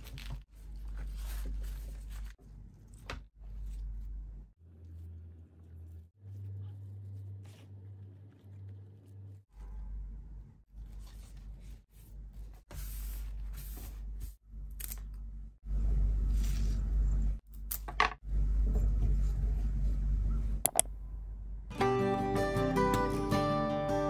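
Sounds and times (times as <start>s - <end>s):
low steady hum: 0.0s - 21.7s.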